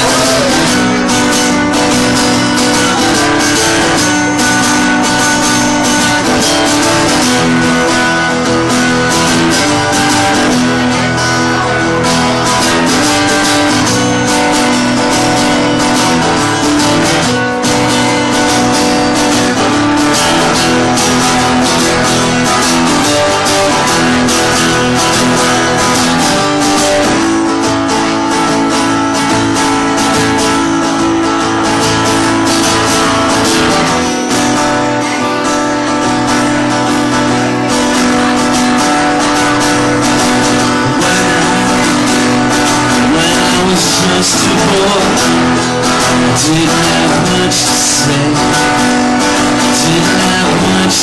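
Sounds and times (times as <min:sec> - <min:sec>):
acoustic guitar strumming: 0:00.0 - 0:51.0.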